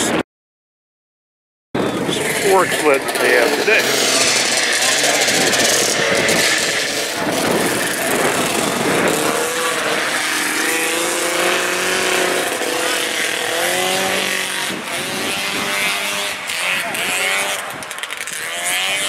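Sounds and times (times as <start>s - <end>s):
snowmobile engine running: 1.8s - 19.0s.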